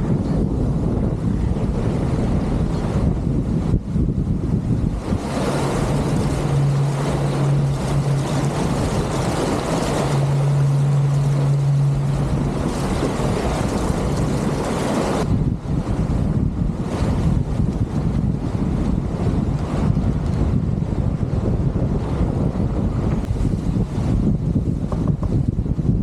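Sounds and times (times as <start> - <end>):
steady low hum: 0.0 - 26.0
water rushing past boat: 0.0 - 26.0
wind rushing: 0.0 - 26.0.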